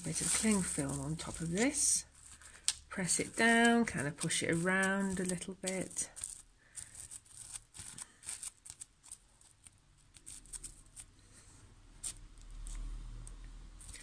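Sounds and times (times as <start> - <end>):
plastic cling film crinkling: 0.0 - 11.1, 13.8 - 14.0.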